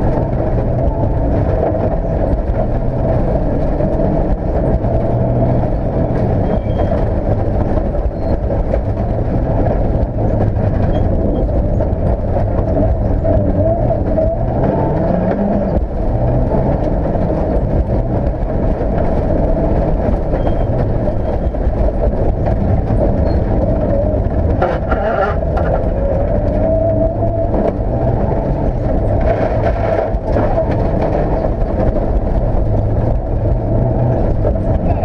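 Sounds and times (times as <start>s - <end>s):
rally car engine revving: 0.0s - 35.0s
road and tyre rumble: 0.0s - 35.0s.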